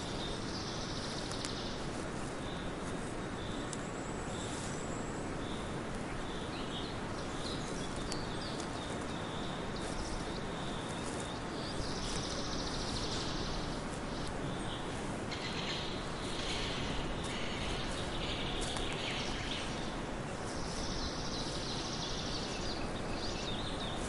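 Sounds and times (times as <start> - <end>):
steady noisy hiss: 0.0 - 24.0.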